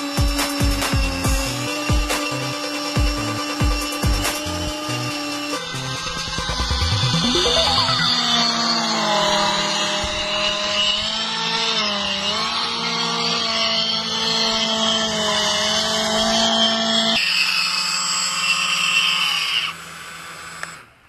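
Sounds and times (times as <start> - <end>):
hovercraft fan motor whining: 0.0 - 21.0.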